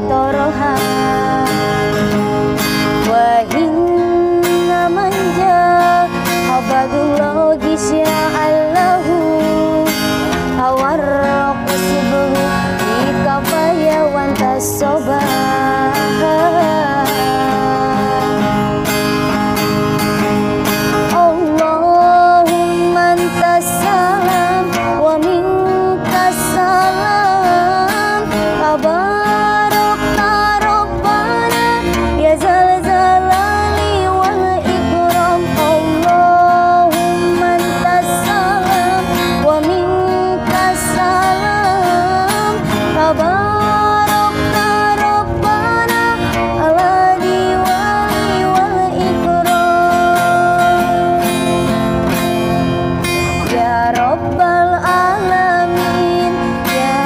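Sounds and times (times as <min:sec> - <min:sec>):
strummed acoustic guitar: 0:00.0 - 0:57.0
woman singing devotional song: 0:00.0 - 0:57.0.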